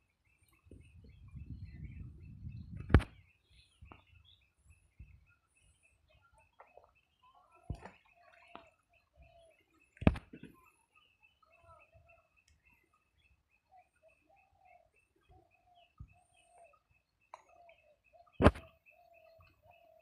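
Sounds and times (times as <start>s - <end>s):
birds calling low notes: 0.0s - 20.0s.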